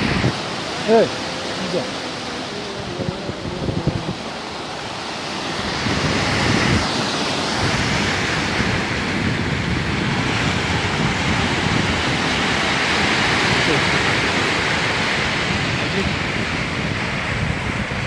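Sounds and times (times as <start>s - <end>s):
sea waves breaking over rocks: 0.0s - 18.0s.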